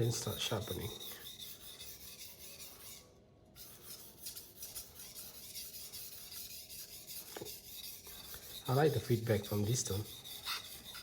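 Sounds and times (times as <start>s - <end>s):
knife rubbing on whetstone: 0.0s - 11.0s.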